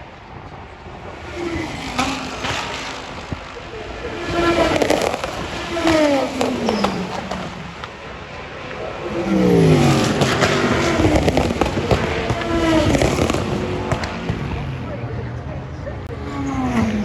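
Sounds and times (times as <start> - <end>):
race cars passing: 0.0 - 17.0
engine pops and crackles: 0.3 - 8.8, 9.8 - 15.0.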